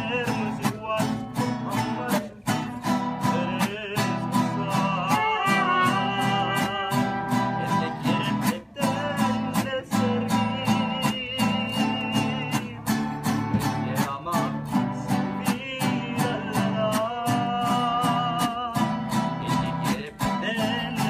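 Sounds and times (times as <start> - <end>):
man singing: 0.0 - 21.0
strummed guitars: 0.0 - 21.0.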